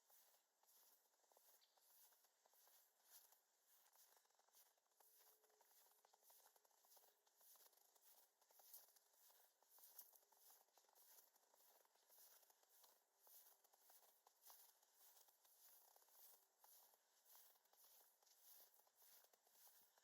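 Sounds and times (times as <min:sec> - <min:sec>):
footsteps crunching in snow: 0:00.0 - 0:20.0.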